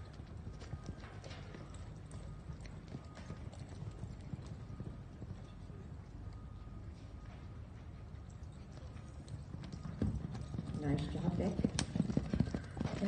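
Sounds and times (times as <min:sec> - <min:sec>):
horse hoofbeats galloping on dirt: 0:00.0 - 0:13.0.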